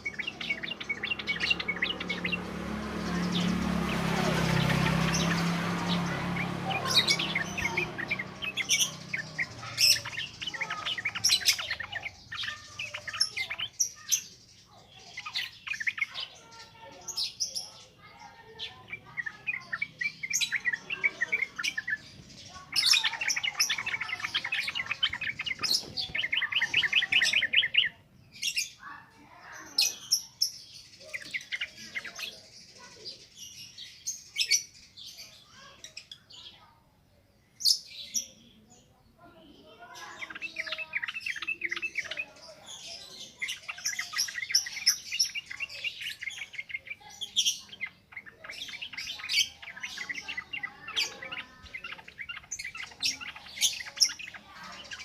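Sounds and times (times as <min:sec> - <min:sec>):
bird singing with chattering trills: 0:00.0 - 0:55.0.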